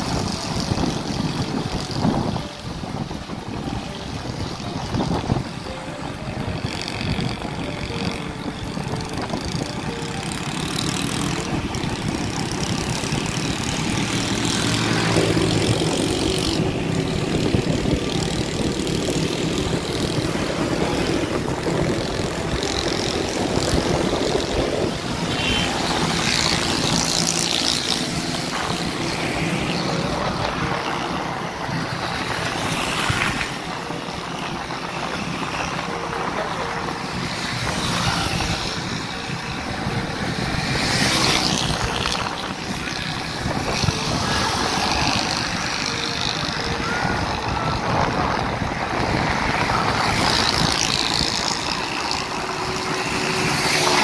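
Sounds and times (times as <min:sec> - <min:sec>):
car engine hum: 0:00.0 - 0:54.0
passing traffic rushing: 0:00.0 - 0:54.0
tyre and wind noise: 0:00.0 - 0:54.0.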